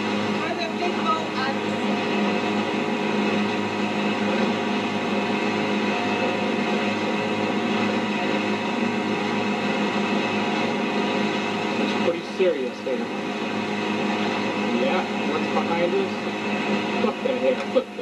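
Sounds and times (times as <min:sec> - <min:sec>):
motorboat engine drone: 0:00.0 - 0:18.0.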